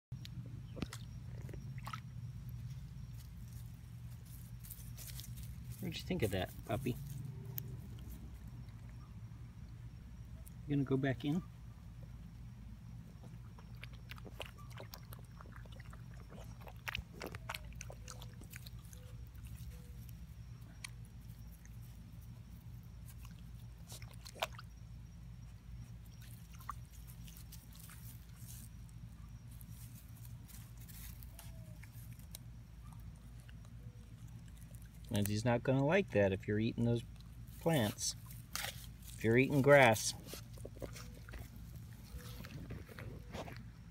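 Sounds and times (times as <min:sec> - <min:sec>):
steady low hum: 0:00.1 - 0:43.9
puppy chewing plants: 0:00.2 - 0:09.3, 0:09.9 - 0:43.9.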